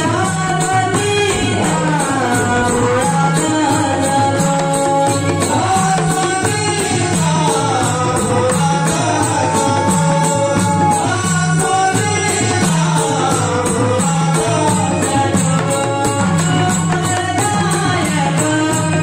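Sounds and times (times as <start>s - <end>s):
hand drums playing: 0.0s - 19.0s
jingling percussion: 0.0s - 19.0s.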